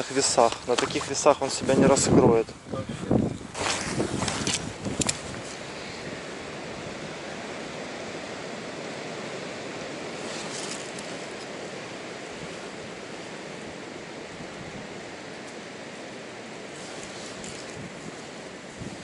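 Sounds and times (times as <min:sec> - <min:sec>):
rushing wind: 0:00.0 - 0:19.0.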